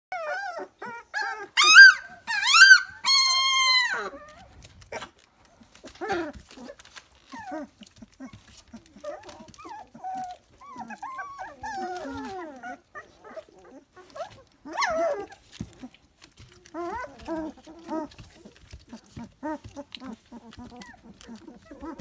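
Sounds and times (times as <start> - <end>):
puppies whimpering and squealing: 0.1 - 22.0.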